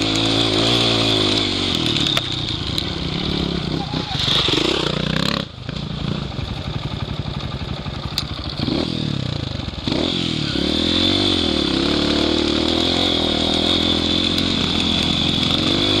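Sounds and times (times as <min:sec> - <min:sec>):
dirt bike engine revving: 0:00.0 - 0:07.2, 0:08.4 - 0:16.0.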